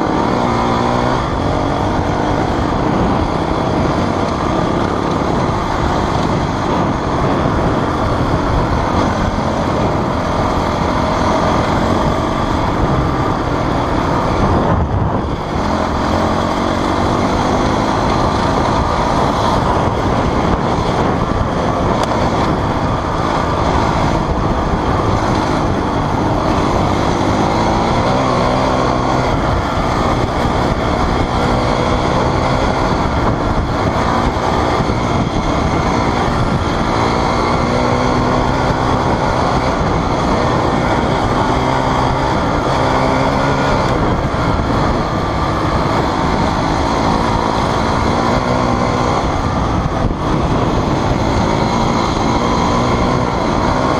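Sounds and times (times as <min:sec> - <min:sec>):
dirt bike engine running: 0:00.0 - 0:53.9
wind rushing: 0:00.0 - 0:53.9.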